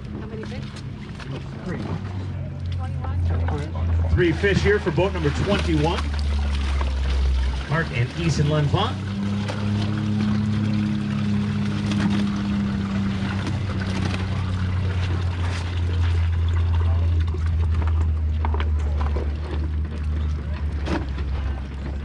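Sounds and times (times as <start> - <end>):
small water splashes: 0.0 - 22.0
steady low hum: 0.0 - 22.0
water pouring and dripping: 4.1 - 21.9.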